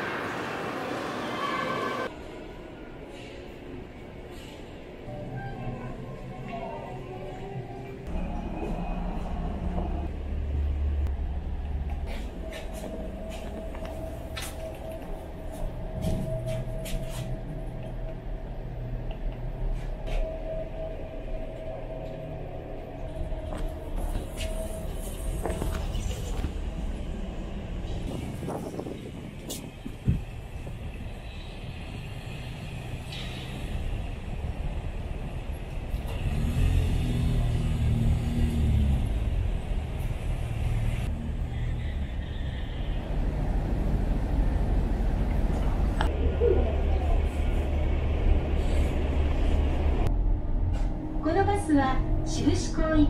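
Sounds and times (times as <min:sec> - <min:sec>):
vehicle engine rumbling: 0:08.0 - 0:53.0.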